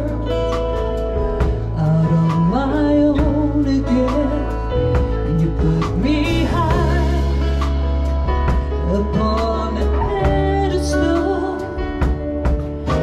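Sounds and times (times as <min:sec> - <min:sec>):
instrumental accompaniment: 0:00.0 - 0:13.0
woman singing a slow ballad: 0:00.0 - 0:13.0.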